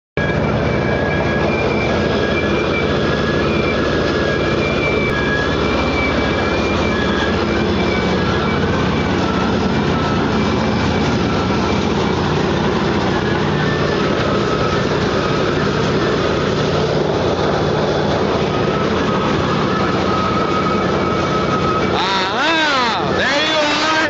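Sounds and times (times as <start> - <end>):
drilling rig machinery running: 0.2 - 24.0
thin high whines: 0.2 - 24.0.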